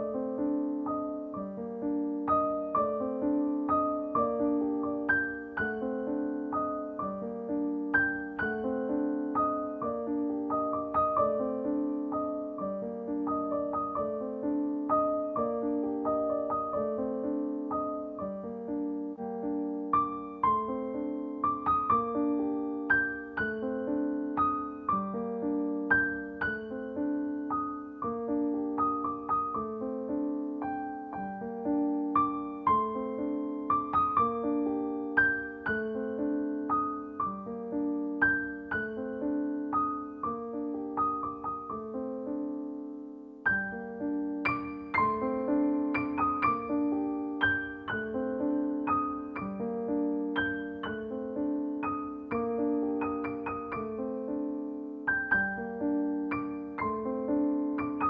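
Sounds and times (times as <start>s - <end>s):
gentle piano piece: 0.0s - 58.0s.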